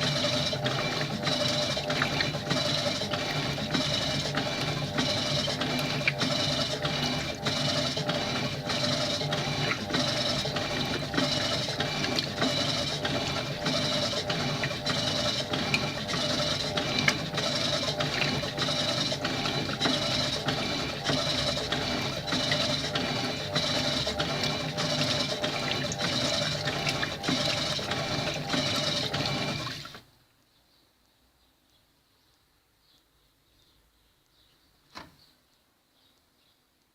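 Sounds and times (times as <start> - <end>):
motor hum: 0.0 - 30.1
washing machine agitator churning: 0.0 - 30.1.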